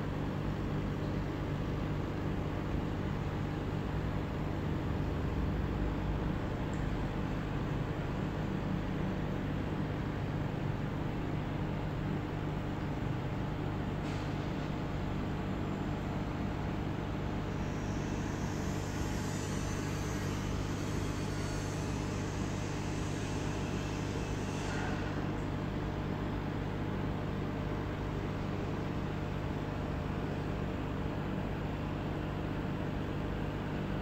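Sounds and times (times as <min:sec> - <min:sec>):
aquarium pump humming: 0:00.0 - 0:34.0.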